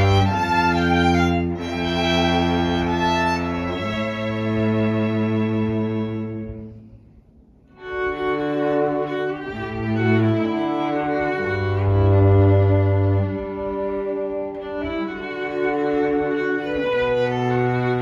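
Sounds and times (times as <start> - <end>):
string trio playing: 0.0 - 18.0.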